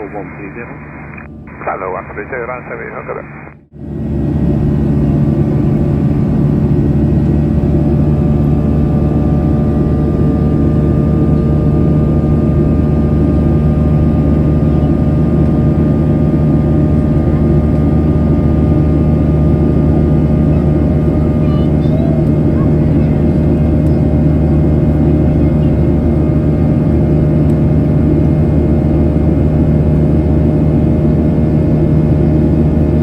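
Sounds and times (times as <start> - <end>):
jet engines droning in cabin: 0.0 - 33.0.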